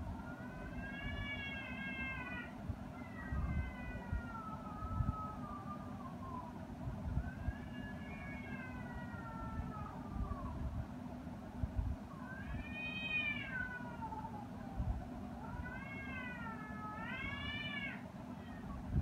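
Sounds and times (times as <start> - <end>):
steady low rumble: 0.0 - 17.7.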